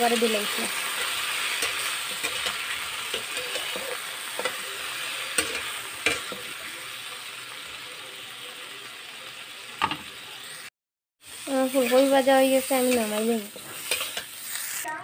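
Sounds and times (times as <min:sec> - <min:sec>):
florets sizzling in hot oil: 0:00.0 - 0:15.0.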